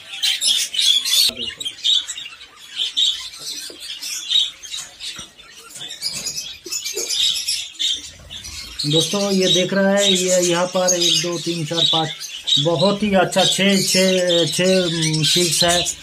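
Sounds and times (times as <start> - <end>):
budgerigars chirping: 0.0 - 16.0.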